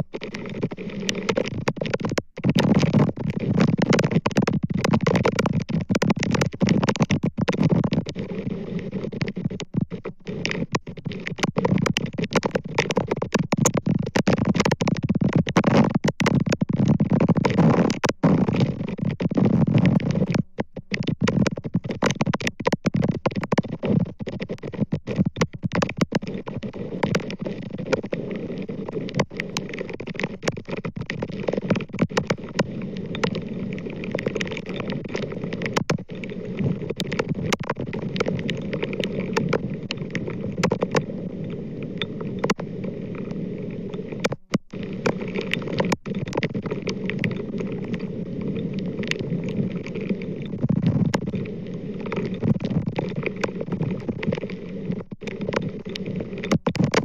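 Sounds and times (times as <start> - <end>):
crackles and pops: 0.0 - 57.0.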